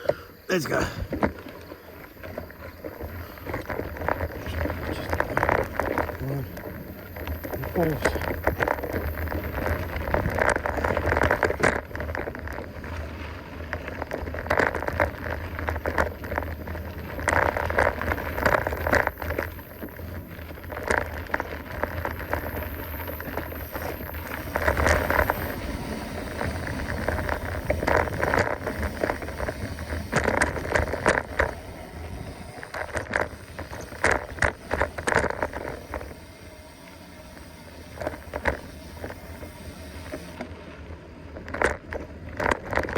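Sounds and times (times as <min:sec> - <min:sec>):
bike rattling over bumps: 0:00.0 - 0:42.9
bike tyres crunching on dirt: 0:00.0 - 0:42.9.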